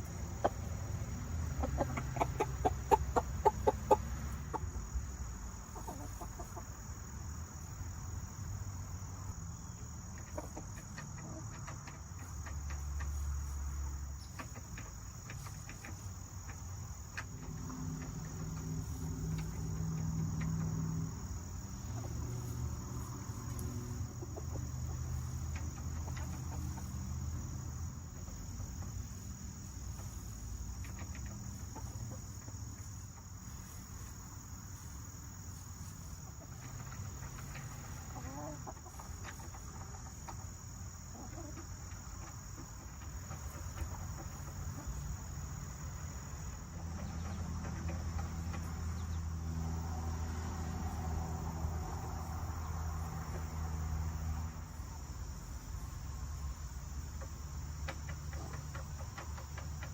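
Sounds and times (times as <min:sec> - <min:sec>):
chickens clucking: 0:00.0 - 0:07.7, 0:09.0 - 0:59.9
crickets trilling: 0:00.0 - 0:59.9.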